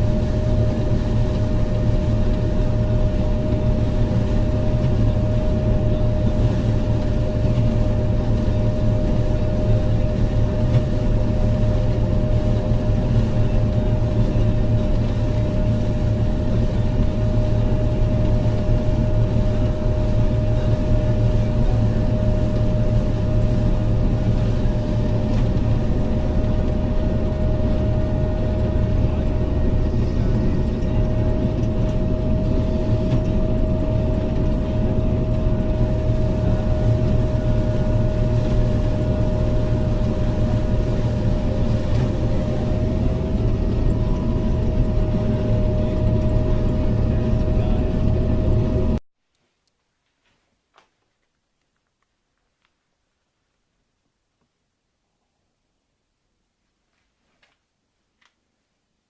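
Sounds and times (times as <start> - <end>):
diesel engine drone: 0.0 - 49.0
steady machine whine: 0.0 - 49.0.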